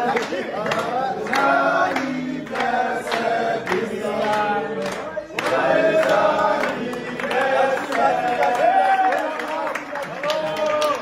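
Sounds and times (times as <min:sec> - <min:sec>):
men singing in chorus: 0:00.0 - 0:09.0
hand claps: 0:00.0 - 0:11.0.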